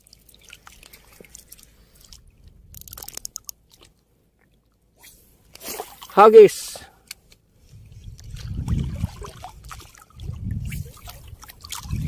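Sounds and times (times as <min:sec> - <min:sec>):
water splashing and crackling: 0:00.0 - 0:12.0.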